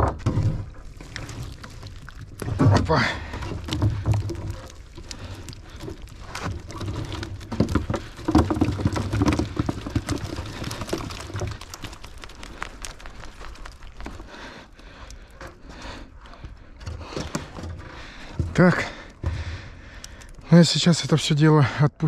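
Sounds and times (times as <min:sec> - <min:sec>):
fish flapping in a plastic crate: 0:00.0 - 0:20.4.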